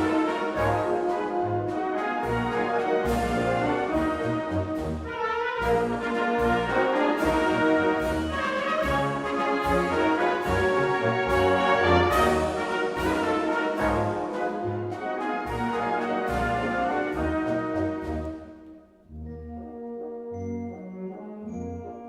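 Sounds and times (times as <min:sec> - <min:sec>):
brass chords: 0:00.0 - 0:22.0.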